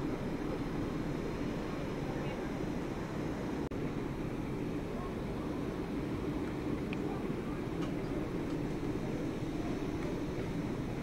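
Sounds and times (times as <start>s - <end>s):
steam rushing from locomotive: 0.0s - 11.0s.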